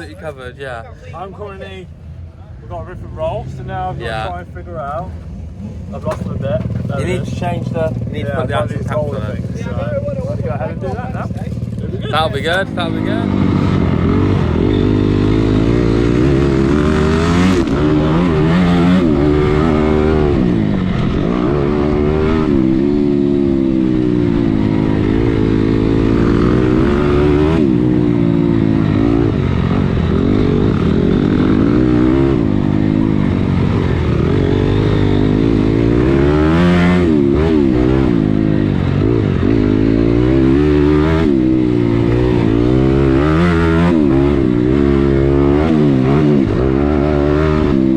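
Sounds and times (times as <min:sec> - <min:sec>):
dirt bike engine revving: 0:05.6 - 0:47.9.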